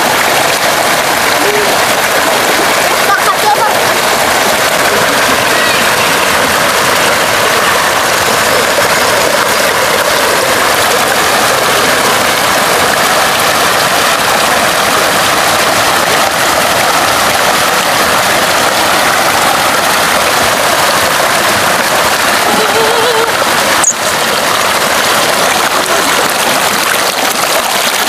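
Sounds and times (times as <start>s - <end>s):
water pouring into a pool: 0.0s - 28.0s.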